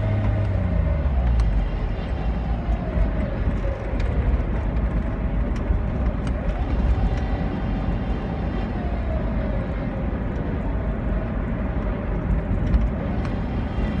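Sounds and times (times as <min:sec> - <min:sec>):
car driving rumble: 0:00.0 - 0:14.0.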